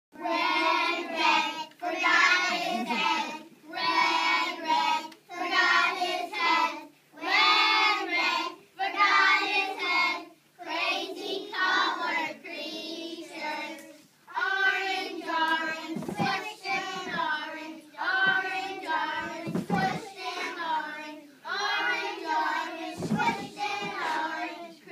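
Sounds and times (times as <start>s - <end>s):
young children singing: 0.2s - 24.9s.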